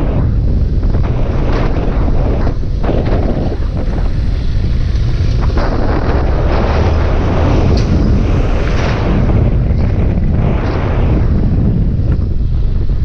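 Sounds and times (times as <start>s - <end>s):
motorcycle engine rumble: 0.0s - 13.0s
wind buffeting microphone: 0.0s - 13.0s.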